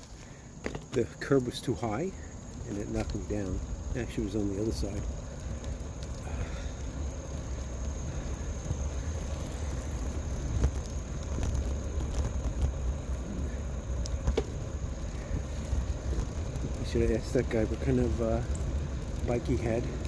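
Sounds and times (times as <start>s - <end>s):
bicycle tyres rumbling: 0.0s - 20.0s
light clicks and rattles: 0.0s - 20.0s.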